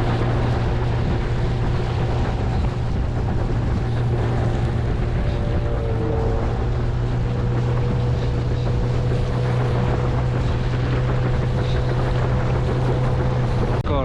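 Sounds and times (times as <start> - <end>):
outboard motor running: 0.0 - 14.0
water rushing: 0.0 - 14.0
wind noise on microphone: 0.0 - 14.0.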